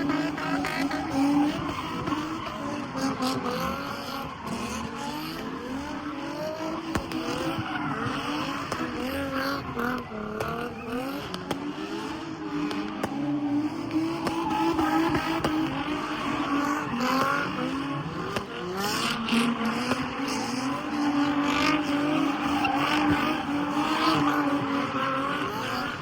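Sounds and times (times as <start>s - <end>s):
car engine revving high: 0.0s - 26.0s.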